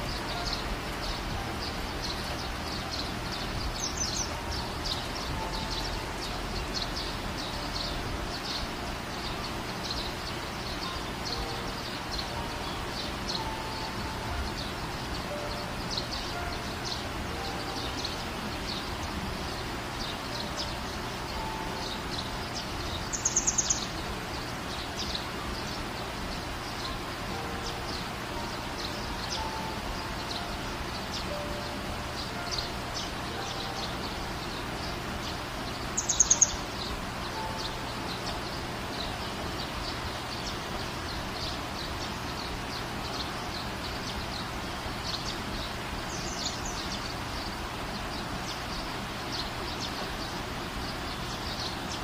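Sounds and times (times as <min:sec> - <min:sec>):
small birds chirping: 0:00.0 - 0:52.0
steady low background noise: 0:00.0 - 0:52.0.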